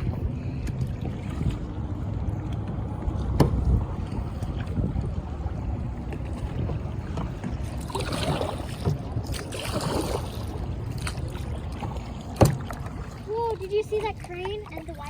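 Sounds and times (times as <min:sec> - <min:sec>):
low rumble: 0:00.0 - 0:15.0
paddle splashing in water: 0:00.0 - 0:15.0.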